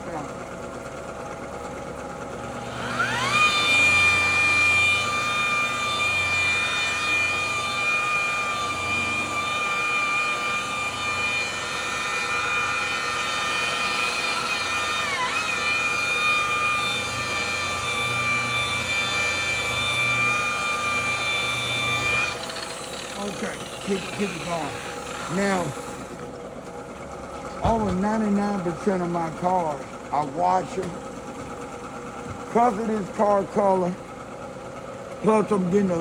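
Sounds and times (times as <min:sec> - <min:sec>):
electric buffer whining: 0:00.0 - 0:36.0.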